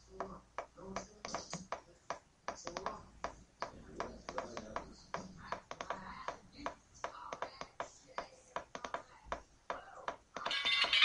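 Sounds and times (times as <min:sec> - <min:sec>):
faint clicks and taps: 0:00.0 - 0:11.0.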